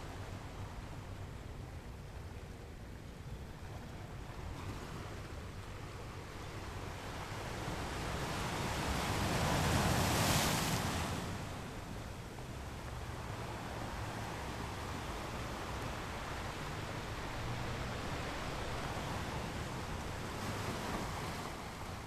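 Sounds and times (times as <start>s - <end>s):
ocean surf rumbling: 0.0s - 22.0s.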